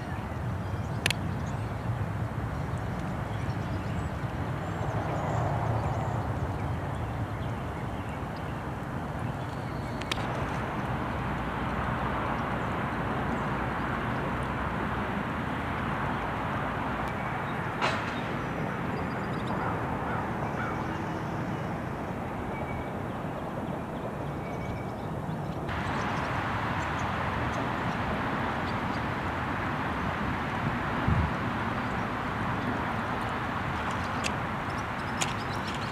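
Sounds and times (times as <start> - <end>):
outdoor background rumble: 0.0 - 35.9.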